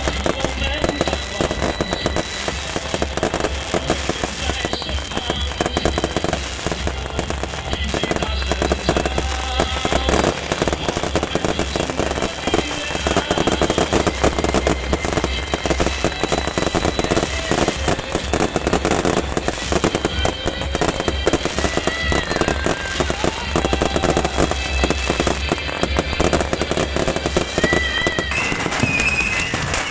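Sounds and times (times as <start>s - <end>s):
fireworks crackling bangs: 0.0s - 29.9s.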